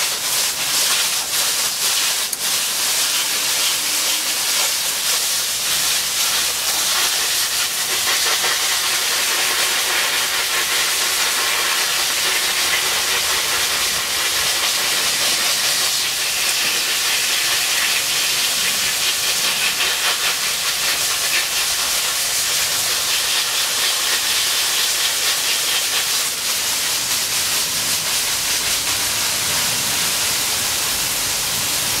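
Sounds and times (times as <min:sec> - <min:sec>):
garden hose spraying water: 0:00.0 - 0:32.0.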